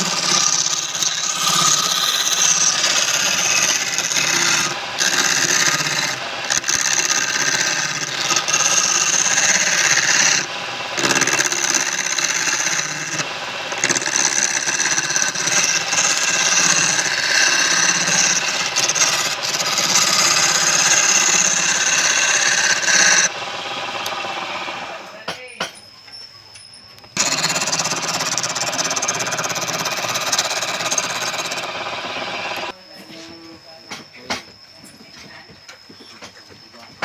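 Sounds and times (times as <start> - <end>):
wood lathe turning: 0.0 - 25.2, 27.2 - 32.8
tool scraping spinning wood: 0.0 - 25.4, 27.2 - 32.8.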